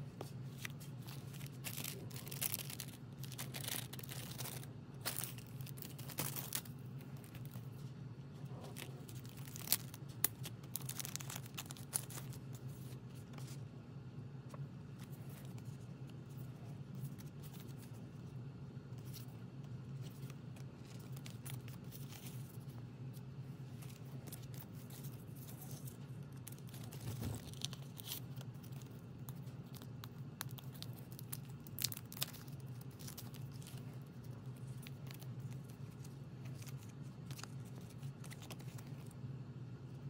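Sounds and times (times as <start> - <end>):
plastic sleeves rustling and crinkling: 0.0 - 13.7, 14.5 - 40.0
steady low hum: 0.0 - 40.0.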